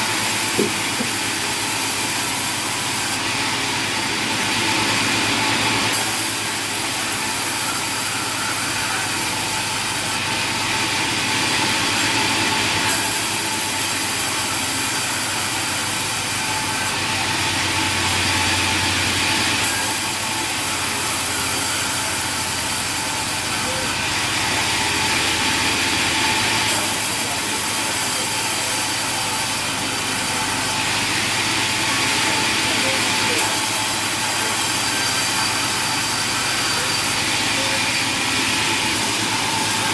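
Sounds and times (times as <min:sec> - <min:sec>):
sawmill machinery running: 0:00.0 - 0:39.9
saws cutting wood: 0:00.0 - 0:39.9.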